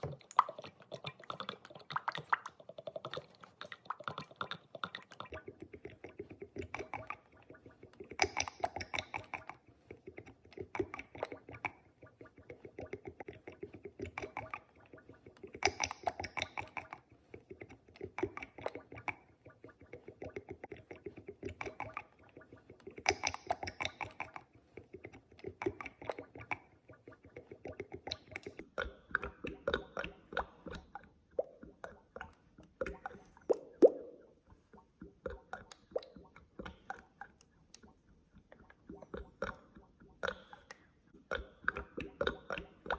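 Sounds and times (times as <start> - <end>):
oil sloshing with gurgling clicks: 0.0 - 42.9.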